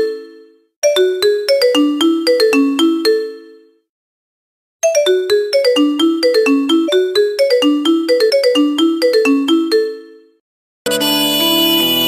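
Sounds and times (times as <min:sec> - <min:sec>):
phone ringtone marimba melody: 0:00.0 - 0:03.8, 0:04.8 - 0:11.0.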